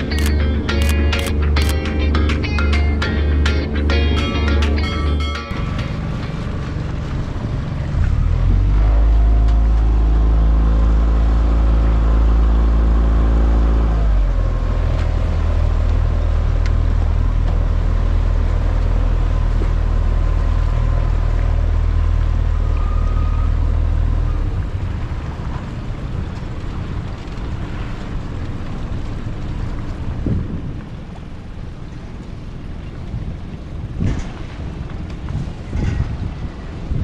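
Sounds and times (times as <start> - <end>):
boat motor humming: 0.0 - 37.0
water: 0.0 - 37.0
wind: 0.0 - 37.0.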